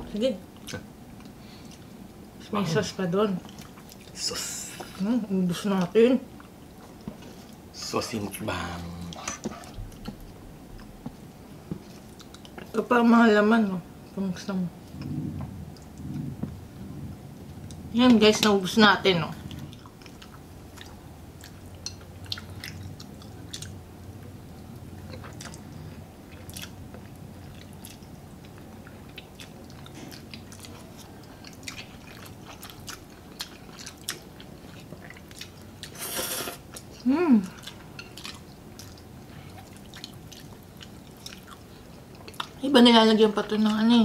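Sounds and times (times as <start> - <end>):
soft chewing: 0.5 - 2.4, 3.3 - 12.9, 14.1 - 43.9.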